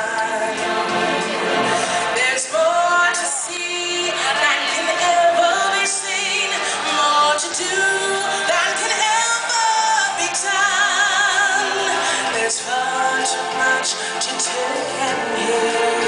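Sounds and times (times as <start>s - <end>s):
stage show music with singing: 0.0s - 16.0s.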